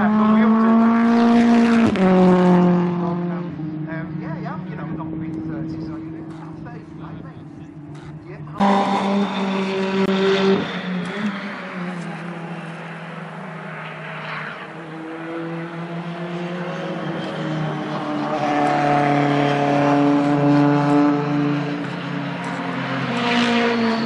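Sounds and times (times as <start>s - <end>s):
race cars passing: 0.0s - 24.0s.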